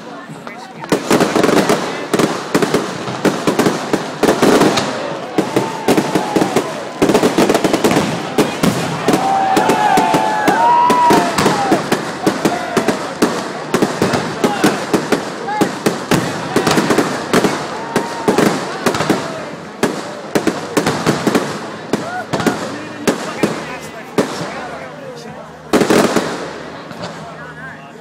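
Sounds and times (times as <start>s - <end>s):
fireworks cracking and banging: 0.0s - 28.0s.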